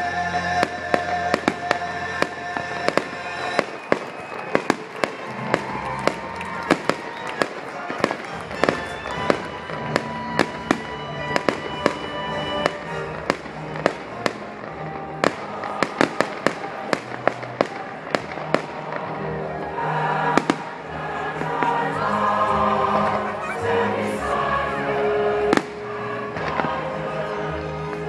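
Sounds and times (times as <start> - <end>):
music: 0.0 - 28.0
fireworks bangs and crackles: 0.3 - 21.9, 25.3 - 28.0.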